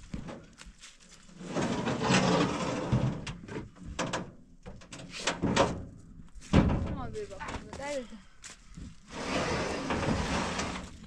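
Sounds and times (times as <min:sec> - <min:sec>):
irregular knocks and scrapes: 0:00.0 - 0:07.9, 0:08.8 - 0:11.0.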